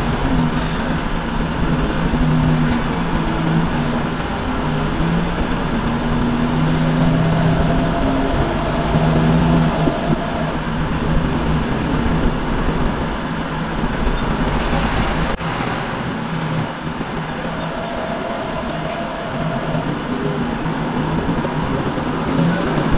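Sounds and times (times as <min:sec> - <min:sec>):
road noise: 0:00.0 - 0:22.9
truck diesel engine running: 0:00.0 - 0:22.9.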